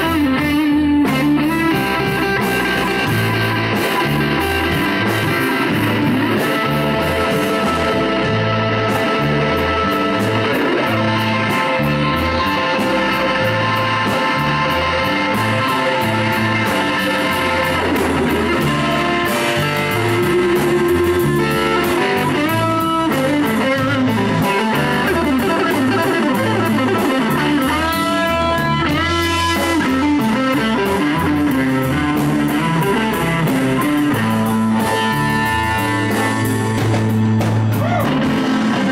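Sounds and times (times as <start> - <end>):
bass guitar: 0.0 - 38.9
drums: 0.0 - 38.9
electric guitar lead lines: 0.0 - 38.9.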